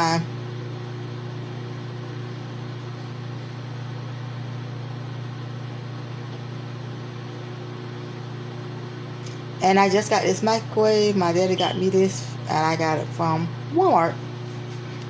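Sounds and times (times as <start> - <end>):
fan whirring: 0.0 - 15.0
microwave oven humming: 0.0 - 15.0.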